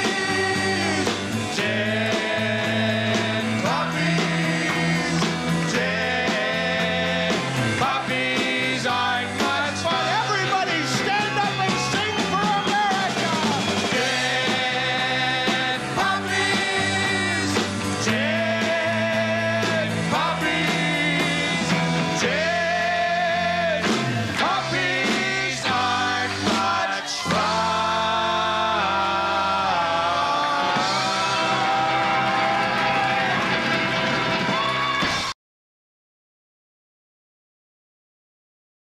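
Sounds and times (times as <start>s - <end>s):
live rock band playing: 0.0s - 35.3s.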